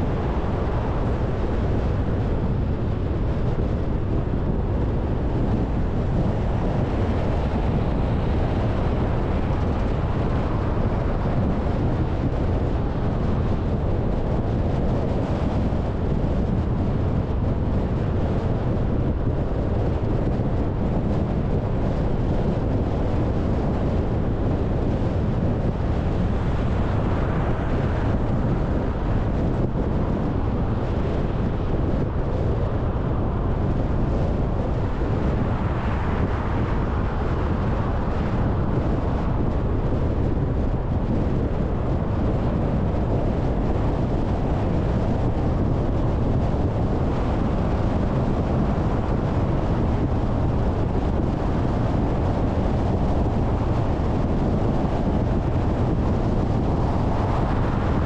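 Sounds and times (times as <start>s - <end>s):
wind noise: 0.0s - 58.0s.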